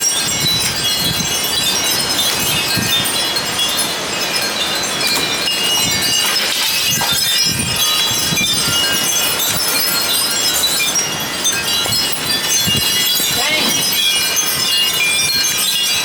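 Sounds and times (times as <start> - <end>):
strong gusty wind: 0.0 - 16.0
wind chimes jangling: 0.0 - 16.0
wind rumbling on microphone: 0.0 - 16.0.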